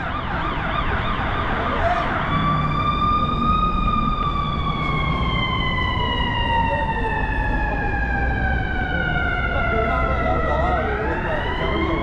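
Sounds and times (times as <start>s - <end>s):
ambulance siren: 0.0s - 12.0s
low traffic rumble: 0.0s - 12.0s.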